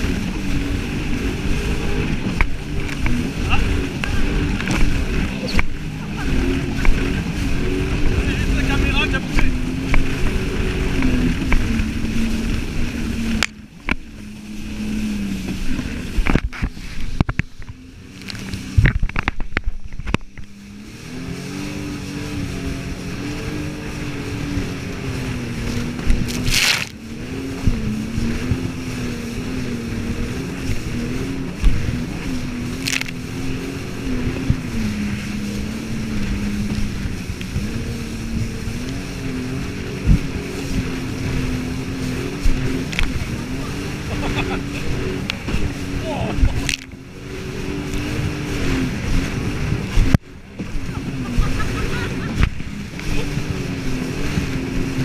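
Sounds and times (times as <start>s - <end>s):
jet ski engine running: 0.0s - 55.0s.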